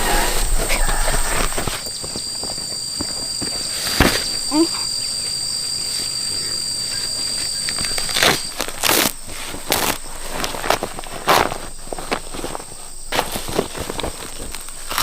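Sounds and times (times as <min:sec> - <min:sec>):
high insect buzz: 0:00.0 - 0:15.0.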